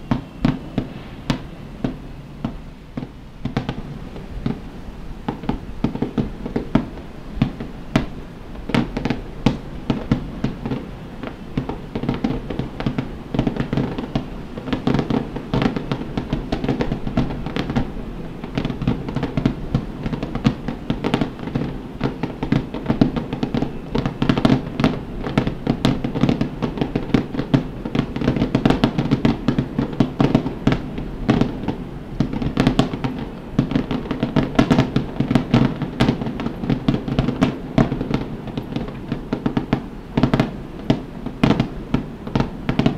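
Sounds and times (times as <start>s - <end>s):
fireworks bursting: 0.0s - 42.9s.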